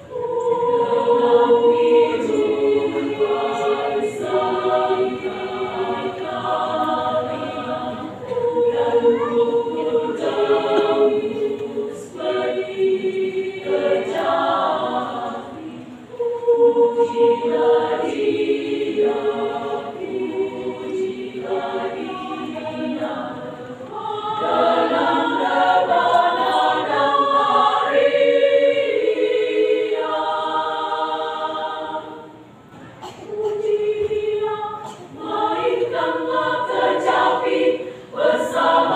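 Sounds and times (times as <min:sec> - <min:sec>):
women's choir singing a cappella: 0:00.0 - 0:38.9.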